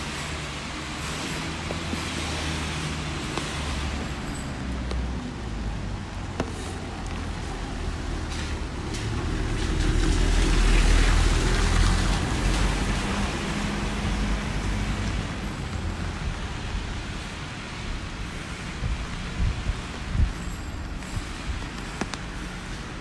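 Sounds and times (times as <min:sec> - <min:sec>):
vehicle passing on wet road: 0:00.0 - 0:20.2
traffic on wet street: 0:00.0 - 0:23.0.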